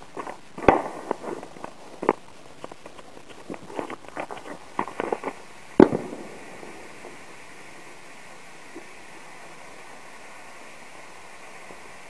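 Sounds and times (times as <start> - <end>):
fireworks crackling and popping: 0.0 - 12.0
low hiss: 0.0 - 12.0.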